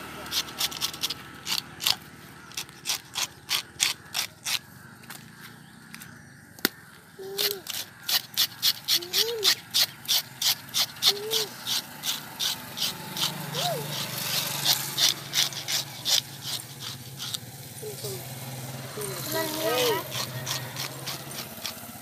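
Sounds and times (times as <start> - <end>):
fish scaler scraping scales: 0.0 - 4.7, 7.2 - 22.0.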